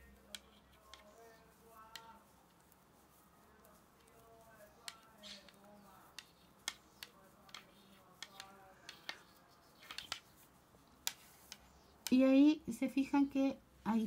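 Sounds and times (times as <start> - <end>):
wooden knitting needles clicking: 0.0 - 13.3.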